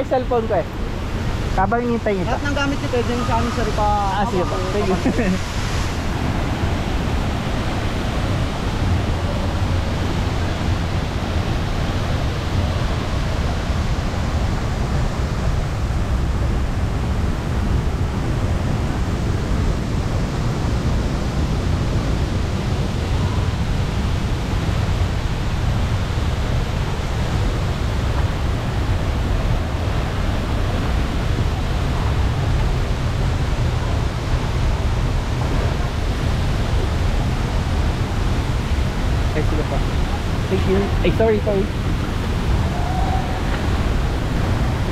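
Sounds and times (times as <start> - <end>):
waterfall rushing into pool: 0.0 - 44.9.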